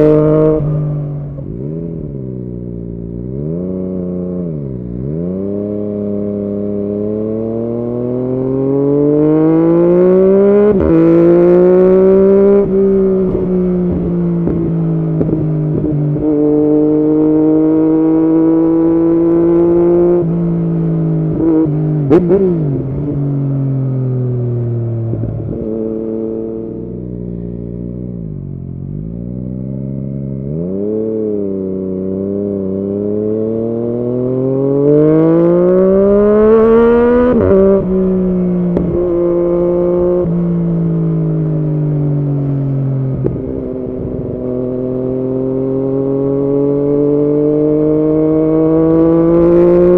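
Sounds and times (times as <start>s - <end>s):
motorcycle engine revving through gears: 0.0s - 49.9s.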